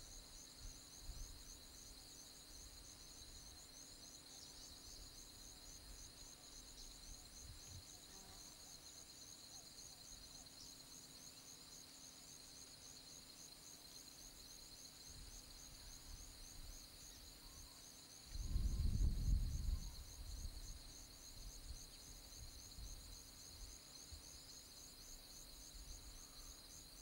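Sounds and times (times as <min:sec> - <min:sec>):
insects buzzing and chirping: 0:00.0 - 0:27.0.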